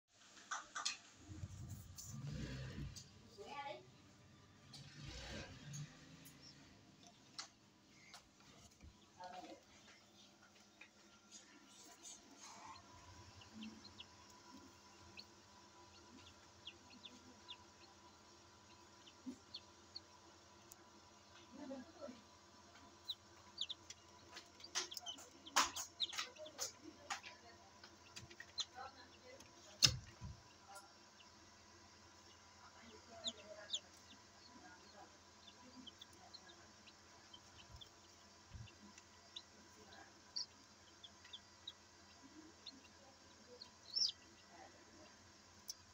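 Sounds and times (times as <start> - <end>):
incubator fan hum: 1.2 - 45.9
chicks peeping: 4.9 - 45.9.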